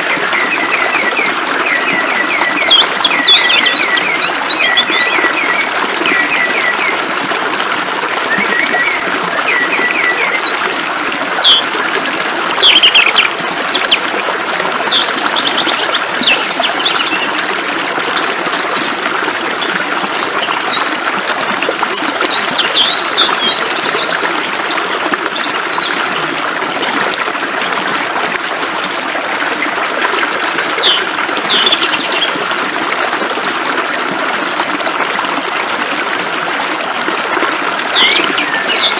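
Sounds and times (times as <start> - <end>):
flowing water: 0.0 - 38.9.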